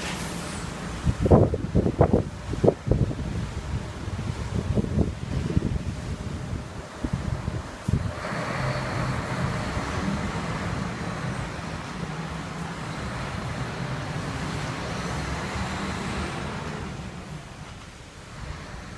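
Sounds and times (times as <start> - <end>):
diesel truck engine rumbling: 0.0 - 18.9.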